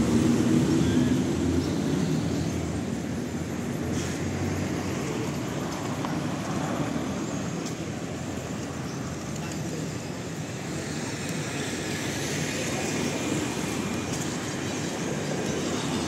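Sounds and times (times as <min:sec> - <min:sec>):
vehicle rumble: 0:00.0 - 0:16.0.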